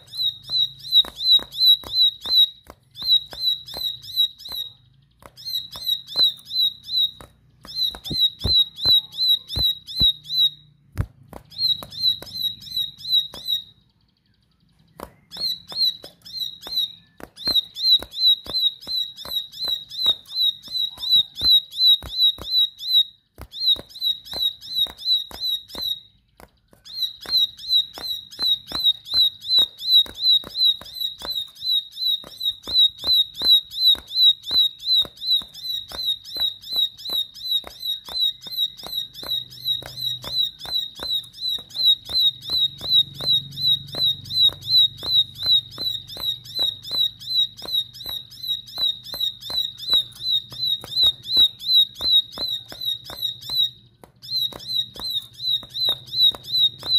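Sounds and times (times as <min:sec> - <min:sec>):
bird chirping: 0:00.0 - 0:56.9.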